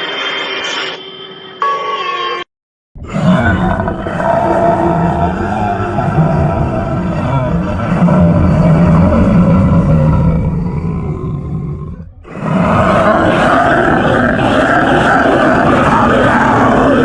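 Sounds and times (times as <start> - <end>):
deep monster-like roar: 3.0 - 17.0
dense roaring sound: 3.0 - 17.0.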